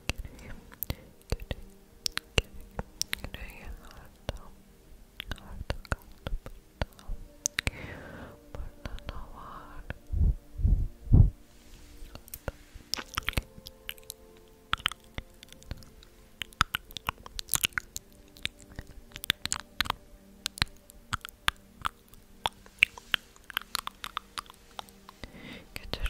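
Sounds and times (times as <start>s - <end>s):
crisp clicks and crackles: 0.0s - 4.6s, 5.2s - 7.8s, 11.7s - 26.0s.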